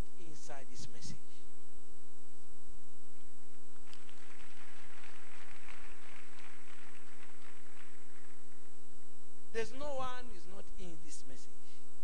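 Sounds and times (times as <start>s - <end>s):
electrical mains hum: 0.0s - 12.0s
faint hiss: 0.0s - 12.0s.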